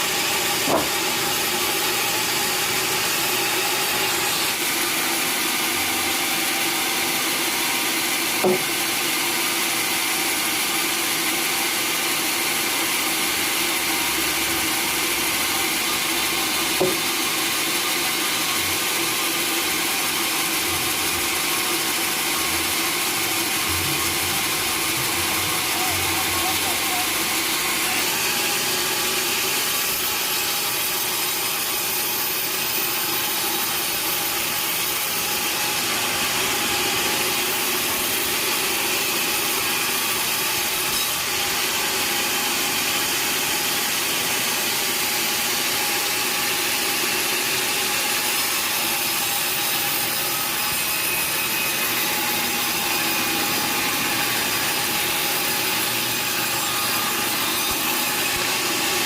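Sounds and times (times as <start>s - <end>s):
saw cutting wood: 0.0s - 59.0s.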